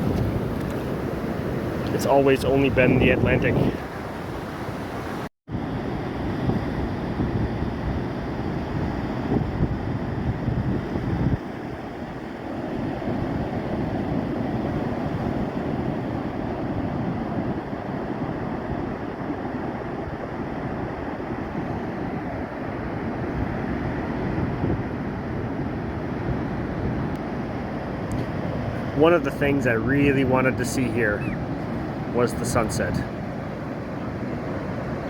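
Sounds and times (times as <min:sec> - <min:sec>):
ocean surf washing up: 0:00.0 - 0:35.0
wind rumbling on microphone: 0:00.0 - 0:35.0.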